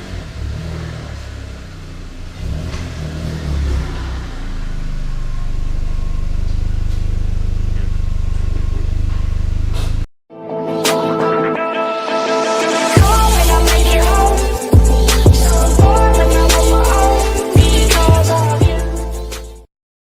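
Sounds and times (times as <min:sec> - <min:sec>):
car engine drone: 0:00.0 - 0:10.1, 0:12.7 - 0:19.6.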